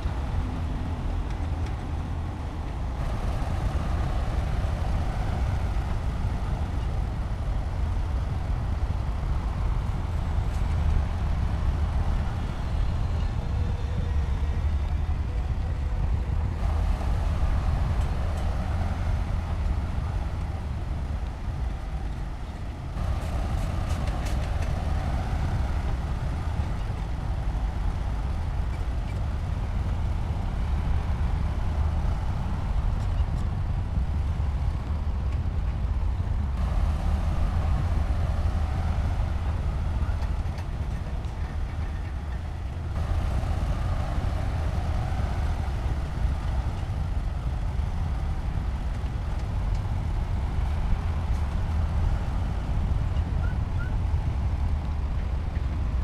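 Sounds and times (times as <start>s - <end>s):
diesel machinery engine rumble: 0.0s - 56.0s.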